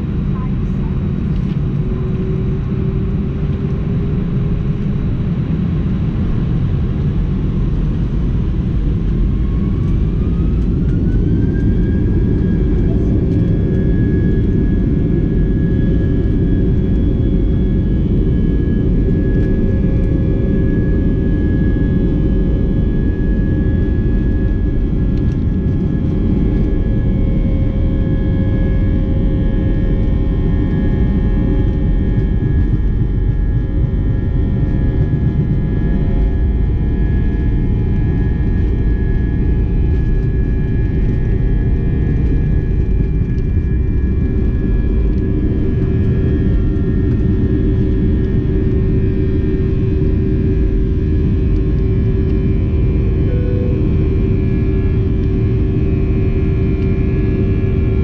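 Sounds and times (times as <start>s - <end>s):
constant hums: 0.0s - 58.0s
jet engine cabin rumble: 0.0s - 58.0s.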